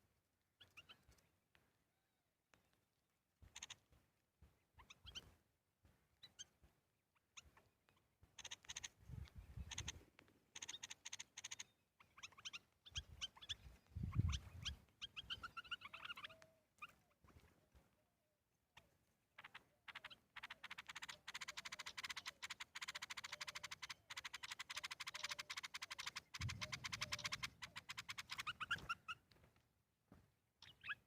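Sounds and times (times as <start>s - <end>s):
small birds chirping: 0.4s - 31.0s.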